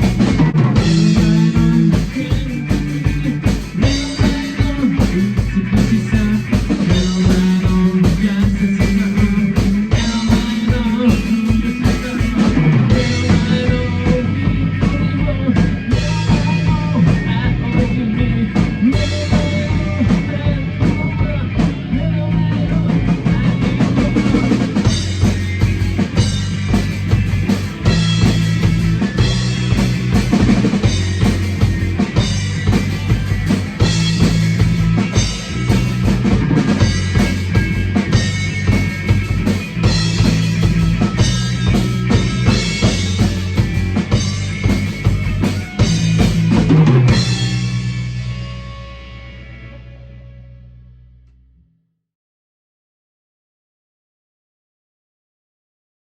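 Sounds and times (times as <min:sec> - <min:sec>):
rock music with drums: 0:00.0 - 0:50.8.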